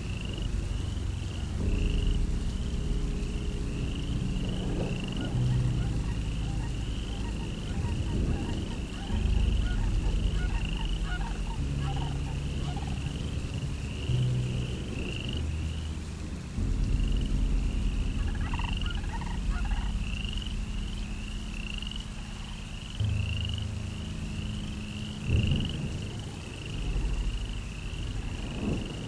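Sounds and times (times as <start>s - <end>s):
low droning hum: 0.0s - 29.0s.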